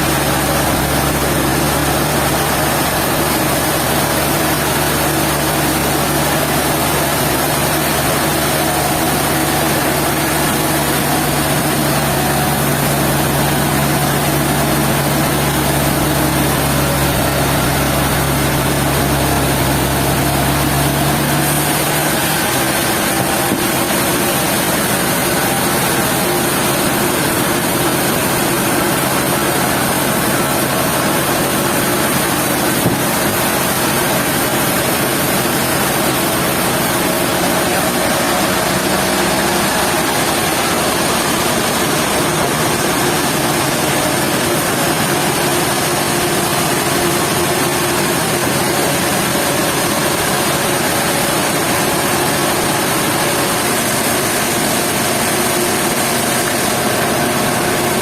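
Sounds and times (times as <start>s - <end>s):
sawmill saw humming: 0.0s - 58.0s.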